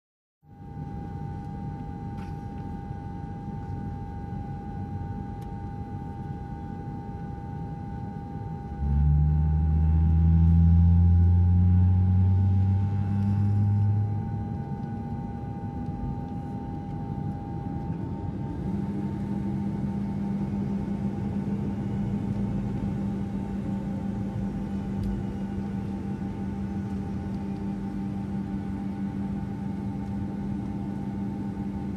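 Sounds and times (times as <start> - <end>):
airplane engine whine: 0.5 - 31.9
loud low engine drone: 0.6 - 31.9.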